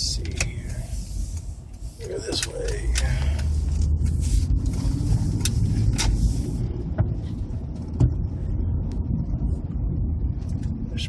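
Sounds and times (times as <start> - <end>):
car engine and tyres rumble: 0.0 - 11.0.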